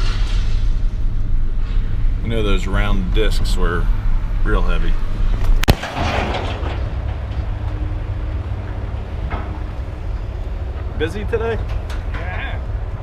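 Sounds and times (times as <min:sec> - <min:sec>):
rattling rush of noise: 0:00.0 - 0:13.0.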